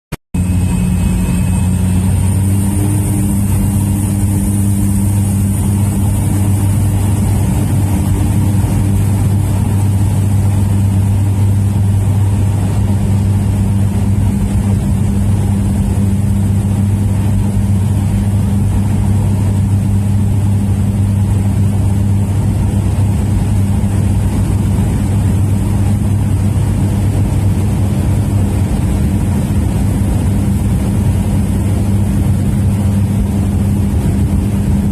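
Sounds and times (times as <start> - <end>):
faint high whine: 0.4 - 34.9
plane engine and propeller drone: 0.4 - 34.9.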